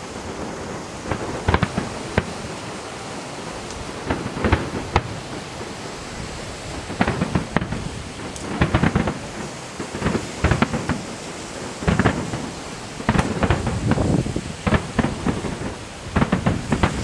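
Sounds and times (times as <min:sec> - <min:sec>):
fireworks booming: 0:00.0 - 0:17.0
fireworks crackle: 0:00.0 - 0:17.0.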